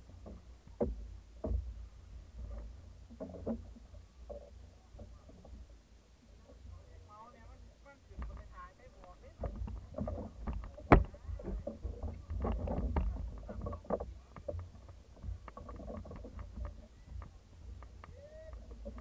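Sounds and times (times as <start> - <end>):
paddles knocking against hull: 0.0 - 19.0
paddles splashing: 0.0 - 19.0.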